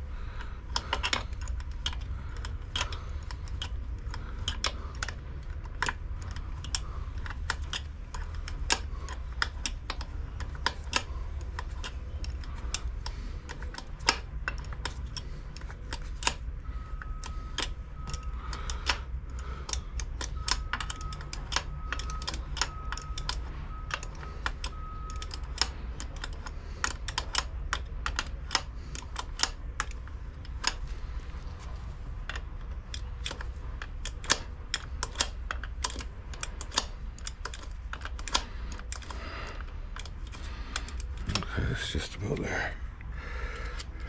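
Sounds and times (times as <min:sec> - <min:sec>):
ratcheting wrench clicking: 0:00.0 - 0:41.5.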